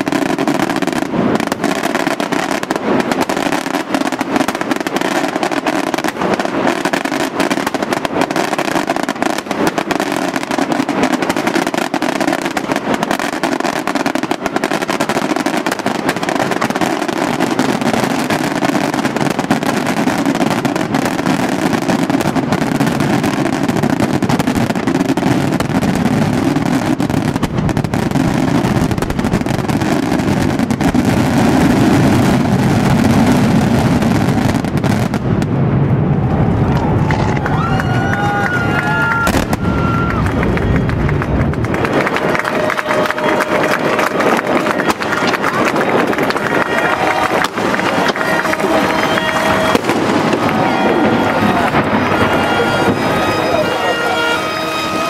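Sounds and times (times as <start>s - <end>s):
fireworks banging and crackling: 0.0s - 55.0s.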